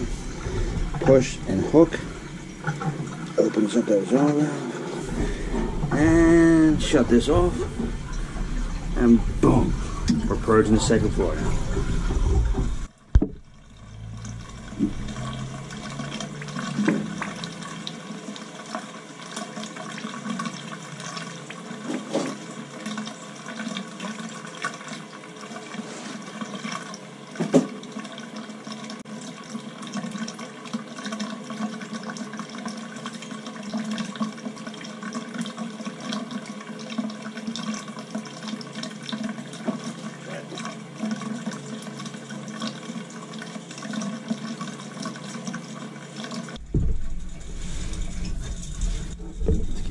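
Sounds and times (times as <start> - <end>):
water spurting from a hose into a sink: 0.0 - 49.9.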